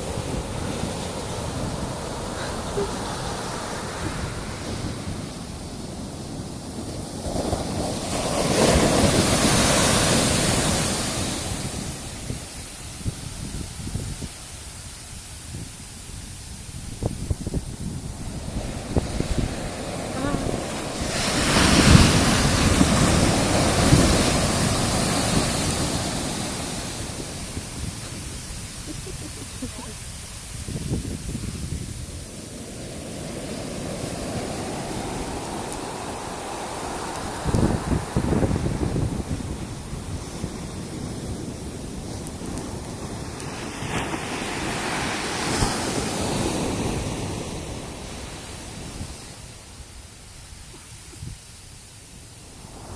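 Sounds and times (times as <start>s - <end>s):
ocean wave breaking: 0.0s - 13.9s, 17.0s - 49.8s
wind buffeting microphone: 0.0s - 52.9s.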